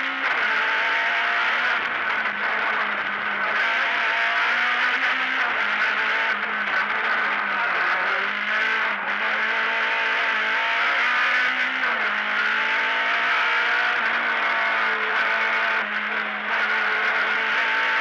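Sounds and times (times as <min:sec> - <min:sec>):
rally car engine at full load: 0:00.0 - 0:18.0
road and cabin noise: 0:00.0 - 0:18.0.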